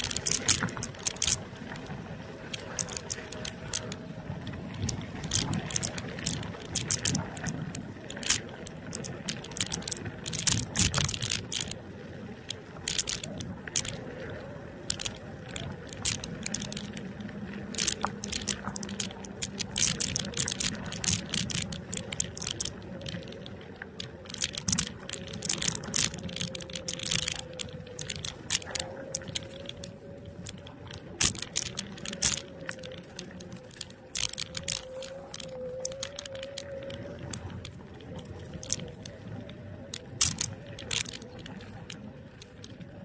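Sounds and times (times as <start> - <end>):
scooter frame rattling: 0.0 - 43.0.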